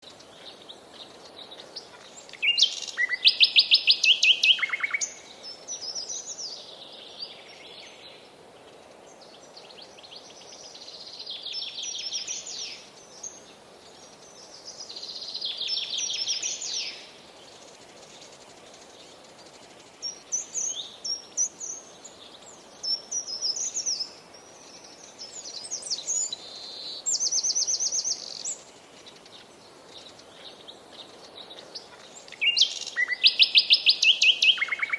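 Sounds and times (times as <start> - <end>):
songbirds trilling: 0.0 - 8.0, 11.3 - 34.9
soft background hiss: 0.0 - 34.9.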